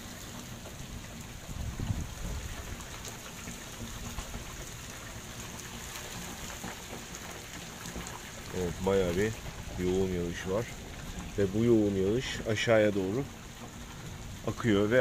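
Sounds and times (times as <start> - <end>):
heavy rain on standing water: 0.0 - 15.0.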